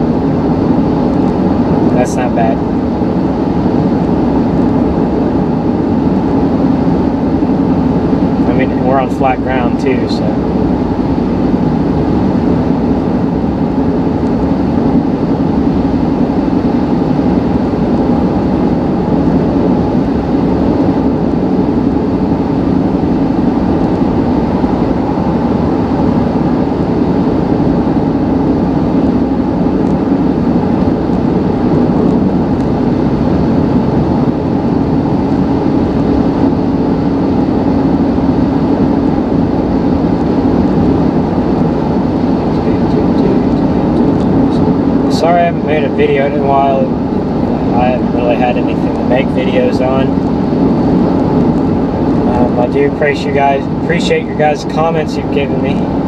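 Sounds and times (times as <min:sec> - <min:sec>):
engine and road noise inside cab: 0:00.0 - 0:56.0.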